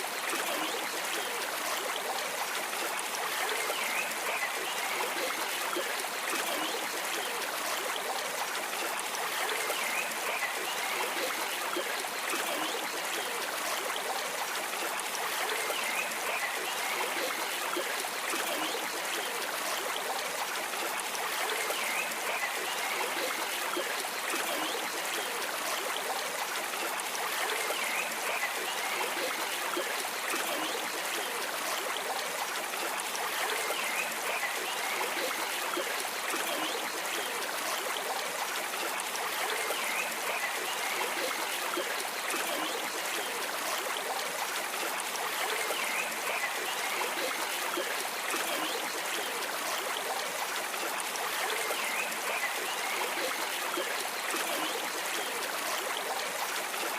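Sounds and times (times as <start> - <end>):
stream water trickling: 0.0 - 56.9.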